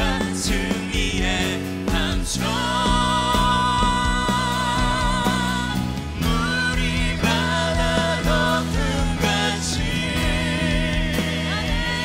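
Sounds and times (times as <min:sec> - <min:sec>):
band with steady beat: 0:00.0 - 0:12.0
woman singing into a microphone: 0:00.0 - 0:12.0.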